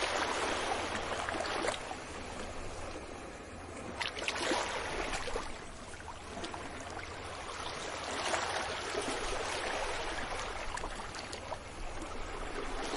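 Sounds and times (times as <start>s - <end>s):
small waves washing up a beach: 0.0s - 12.9s.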